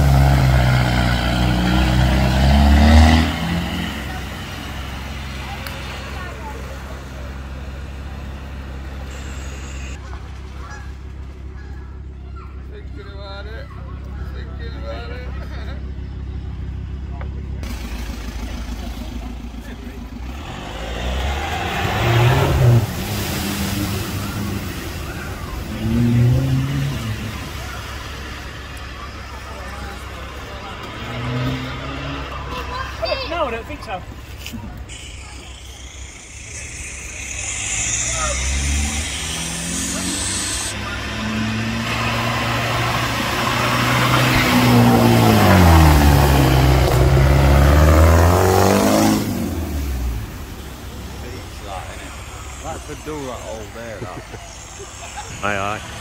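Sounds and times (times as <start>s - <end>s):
water splashing around wheels: 0.0s - 12.0s, 17.6s - 56.0s
pickup engine accelerating: 0.0s - 56.0s.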